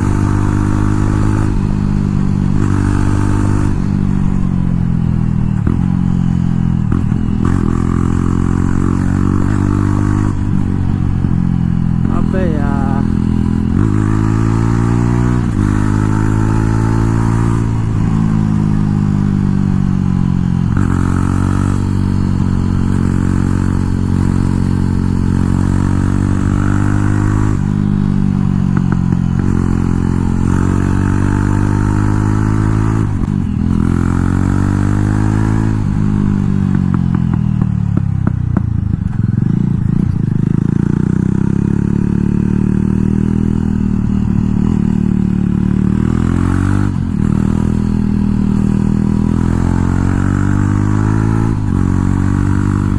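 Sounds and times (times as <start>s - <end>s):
motorcycle engine revving through gears: 0.0s - 52.9s.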